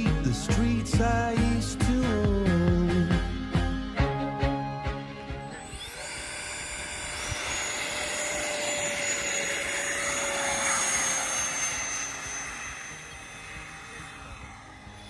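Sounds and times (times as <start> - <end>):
electric fan whine: 0.0 - 15.0.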